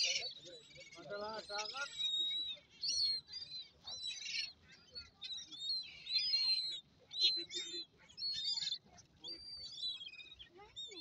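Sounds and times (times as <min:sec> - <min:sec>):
gulls squealing calls: 0:00.0 - 0:11.0.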